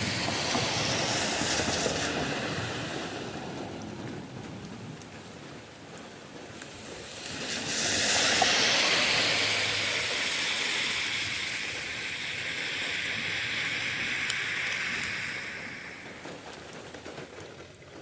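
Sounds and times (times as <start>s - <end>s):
hissing rain downpour: 0.0s - 18.0s.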